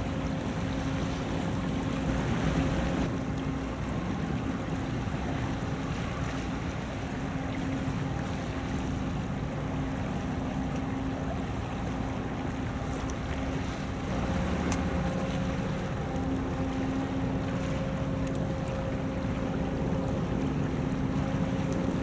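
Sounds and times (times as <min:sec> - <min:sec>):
ship engine drone: 0:00.0 - 0:22.0
water: 0:00.0 - 0:22.0.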